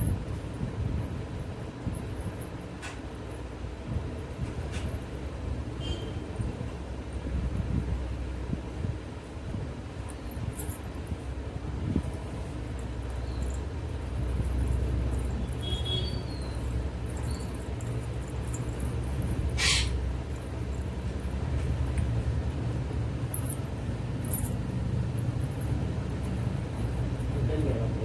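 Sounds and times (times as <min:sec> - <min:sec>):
anklet bells jingling: 0:00.0 - 0:08.5, 0:09.9 - 0:11.3, 0:12.0 - 0:28.0
steady low hum: 0:00.0 - 0:28.0.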